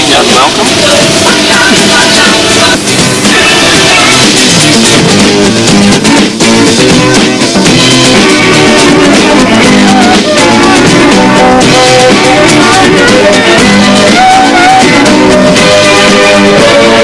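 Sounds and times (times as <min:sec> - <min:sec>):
background guitar music: 0:00.0 - 0:17.0.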